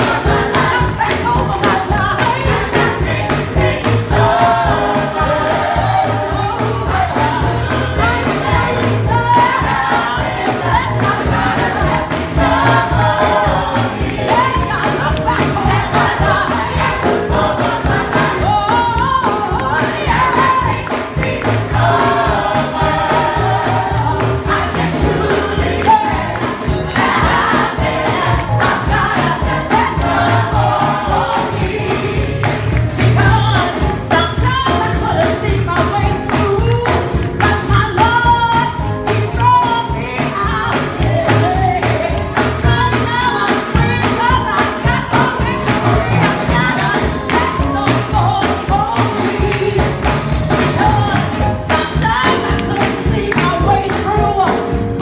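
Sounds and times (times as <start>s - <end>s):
gospel choir singing: 0.0s - 55.0s.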